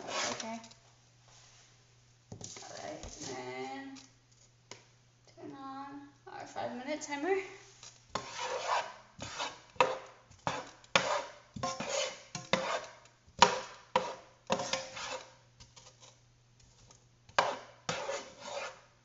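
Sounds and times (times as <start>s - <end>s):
spoon stirring and scraping in a pot: 0.0s - 1.7s, 2.4s - 5.0s, 7.6s - 19.0s.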